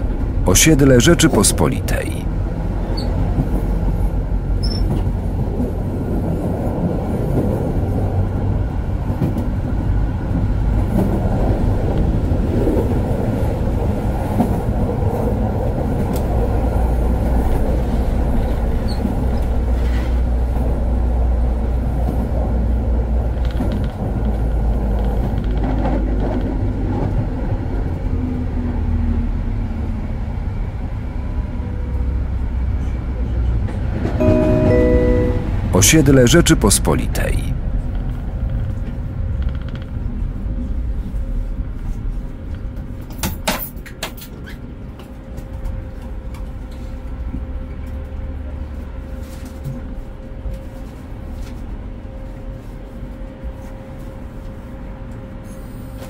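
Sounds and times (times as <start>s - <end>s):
tram wheels rumbling on rails: 0.0s - 35.3s, 37.4s - 56.0s.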